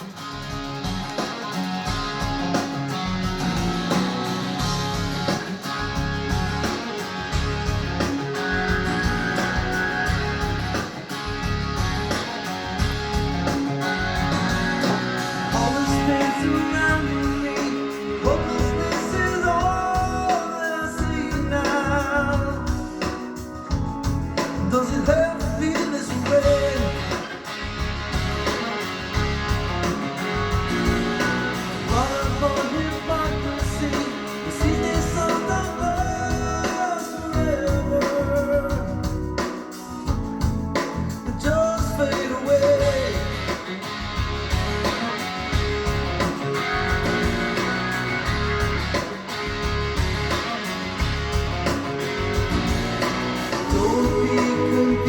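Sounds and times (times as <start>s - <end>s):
rock song with guitar and vocals: 0.0s - 55.0s.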